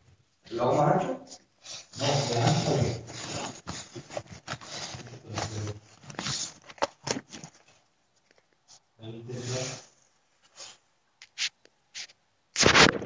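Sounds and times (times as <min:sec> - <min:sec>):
rustling and handling noise: 0:01.3 - 0:13.0.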